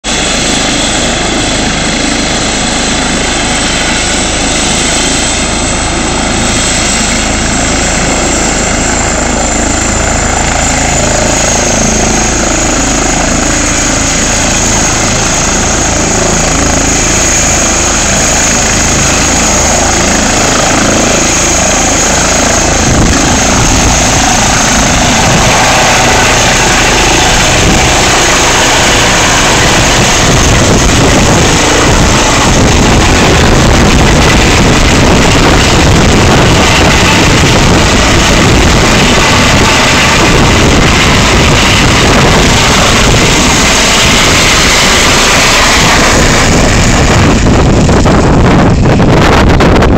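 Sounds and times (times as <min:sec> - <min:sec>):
helicopter running: 0:00.0 - 0:49.9
high turbine whine: 0:00.0 - 0:49.9.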